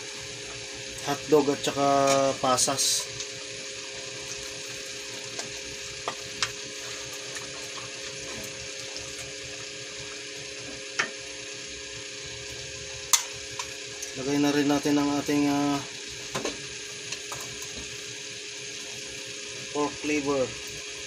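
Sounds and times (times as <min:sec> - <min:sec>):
stew simmering and sizzling: 0:00.0 - 0:21.0.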